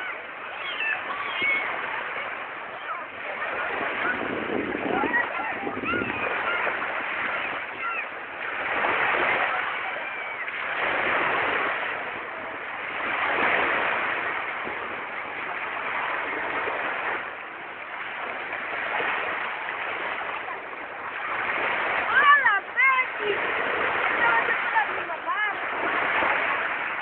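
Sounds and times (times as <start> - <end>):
small waves washing onto beach: 0.0 - 27.0.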